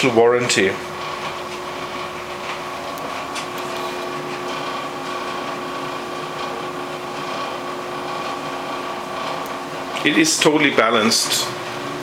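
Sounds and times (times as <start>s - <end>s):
dryer humming: 0.0s - 12.0s
dryer rattle: 0.0s - 12.0s.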